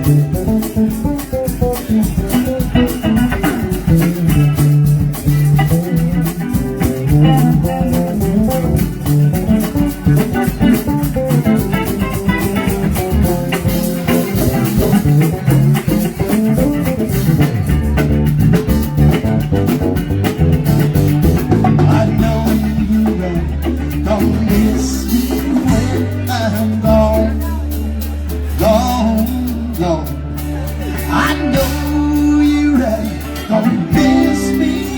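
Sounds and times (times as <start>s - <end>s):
live band playing instrumental: 0.0s - 34.9s.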